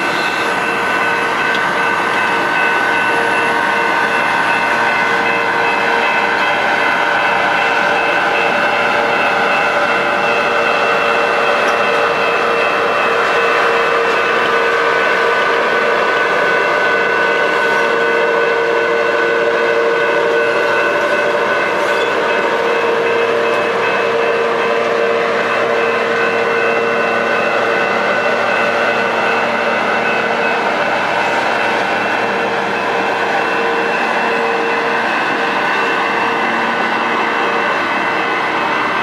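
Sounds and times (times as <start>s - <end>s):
high ringing tones: 0.0s - 39.0s
train wheels rumbling: 0.0s - 39.0s.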